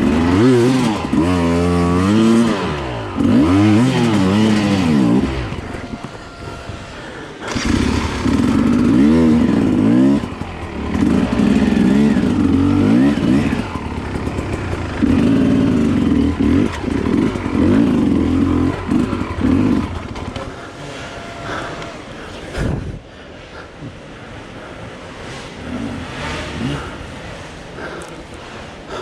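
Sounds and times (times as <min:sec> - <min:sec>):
dirt bike engine revving: 0:00.0 - 0:23.0, 0:23.6 - 0:29.0.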